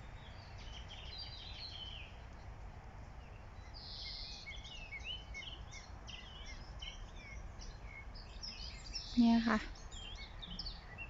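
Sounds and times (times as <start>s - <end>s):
low steady rumble: 0.0s - 11.0s
songbirds chirping and twittering: 0.0s - 11.0s.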